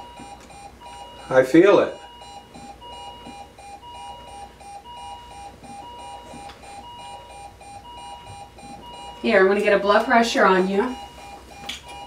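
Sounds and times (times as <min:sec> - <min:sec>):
patient monitor alarm beeps: 0:00.0 - 0:12.0.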